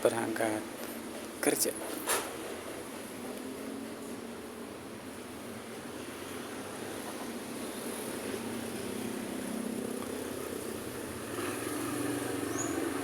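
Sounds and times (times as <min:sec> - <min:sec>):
road noise: 0:00.0 - 0:13.0
passing vehicle engines: 0:01.8 - 0:13.0.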